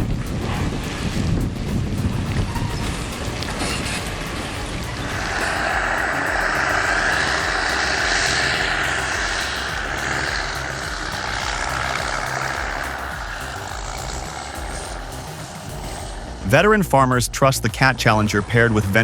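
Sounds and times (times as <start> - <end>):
diesel engine running under load: 0.0 - 16.8.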